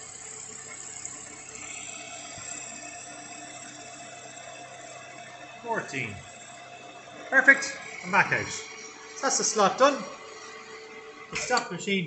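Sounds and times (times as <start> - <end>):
milling machine cutting: 0.0 - 12.0.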